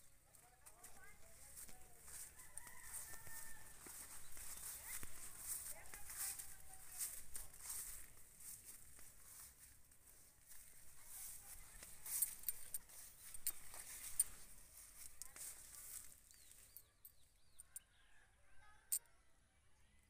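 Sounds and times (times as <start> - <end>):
bird chirping: 0.0 - 9.5, 10.5 - 19.0
faint rustling and handling: 0.0 - 16.9.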